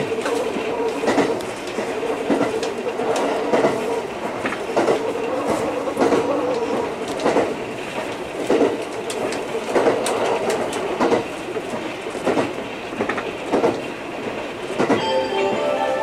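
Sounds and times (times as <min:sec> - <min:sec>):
wheels clacking over rail joints: 0:00.0 - 0:15.1
train running rumble: 0:00.0 - 0:16.0.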